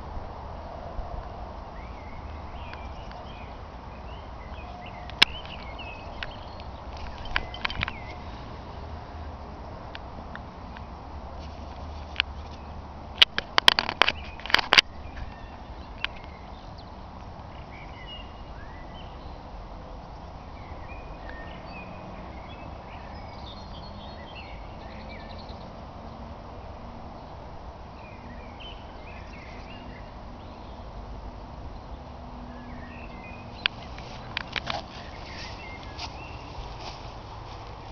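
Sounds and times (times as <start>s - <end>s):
low wind rumble: 0.0s - 37.9s
small birds chirping: 1.2s - 26.3s, 27.1s - 37.9s.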